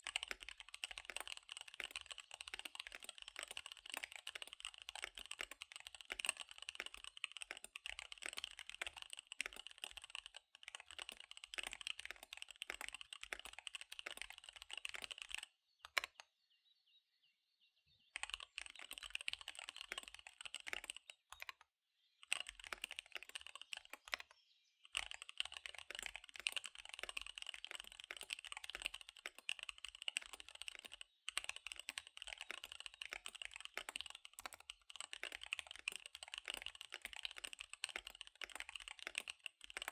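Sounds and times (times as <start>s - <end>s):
mechanical keyboard typing: 0.0s - 16.2s, 18.2s - 21.6s, 22.2s - 24.3s, 24.9s - 39.9s.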